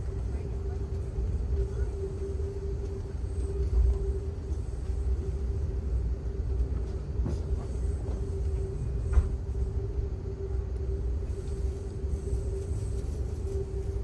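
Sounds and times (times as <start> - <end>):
constant hum: 0.0 - 14.0
train wheels rumbling on track: 0.0 - 14.0.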